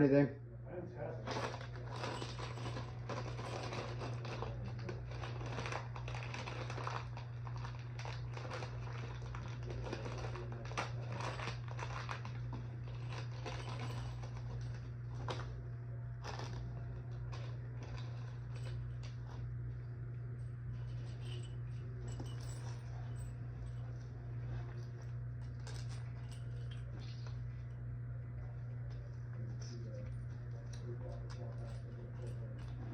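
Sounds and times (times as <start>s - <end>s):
steady low hum: 0.0s - 32.9s
rustling and clicking of handling: 1.2s - 32.9s.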